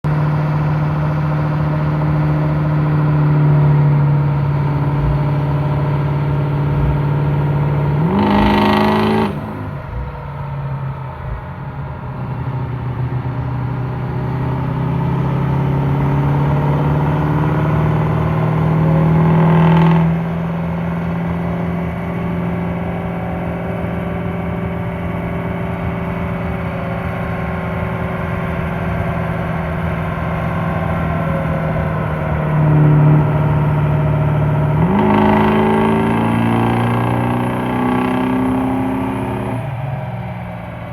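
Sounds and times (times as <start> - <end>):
drivetrain drone: 0.0 - 40.9
truck engine running hard: 0.0 - 40.9.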